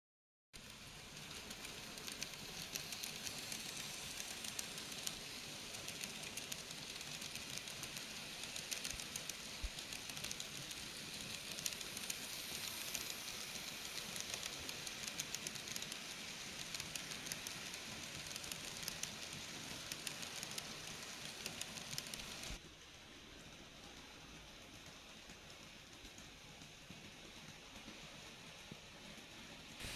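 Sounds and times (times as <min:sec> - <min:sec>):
model train running on track: 0:00.6 - 0:29.9.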